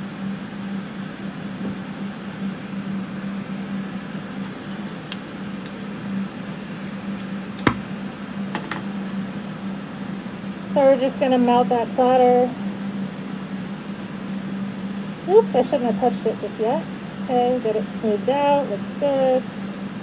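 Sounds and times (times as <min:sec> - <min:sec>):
low hum: 0:00.0 - 0:20.0
room fans whirring: 0:00.0 - 0:20.0.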